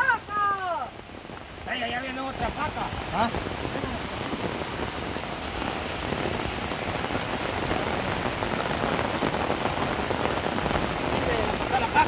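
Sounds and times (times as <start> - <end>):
rain falling on a paved road: 0.0 - 12.0.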